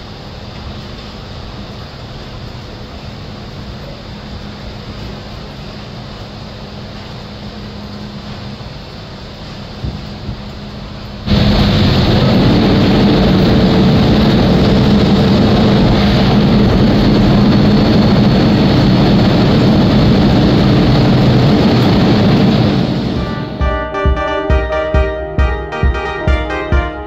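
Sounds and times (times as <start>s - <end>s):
electric train running at speed: 0.0s - 23.7s.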